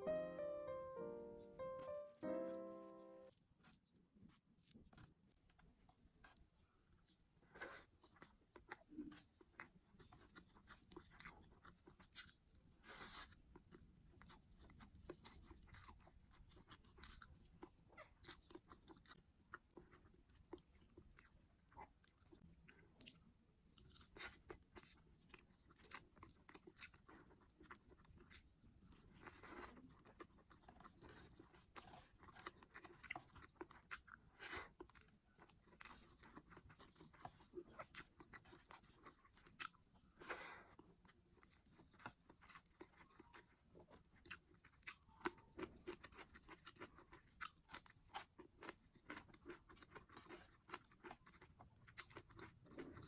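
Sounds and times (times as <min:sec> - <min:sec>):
person chewing food: 0:03.3 - 0:53.0.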